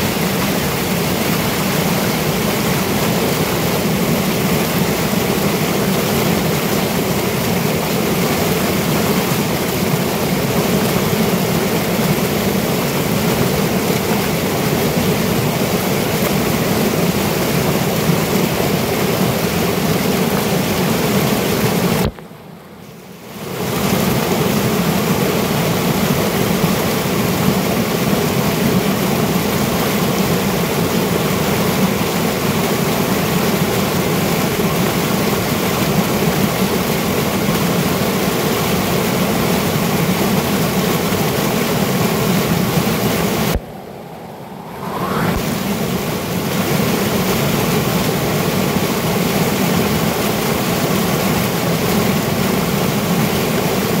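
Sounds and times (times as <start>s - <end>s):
stream cascading over boulders: 0.0s - 22.2s, 22.9s - 44.6s, 45.3s - 54.0s.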